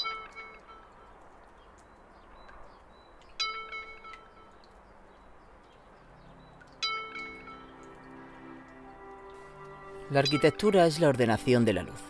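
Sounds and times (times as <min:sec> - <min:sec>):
soft sustained music tones: 0:00.0 - 0:12.0.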